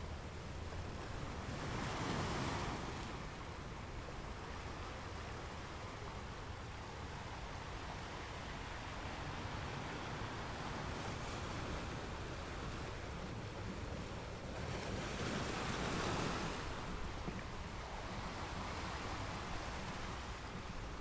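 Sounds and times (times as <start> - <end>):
ocean waves washing: 0.0 - 21.0.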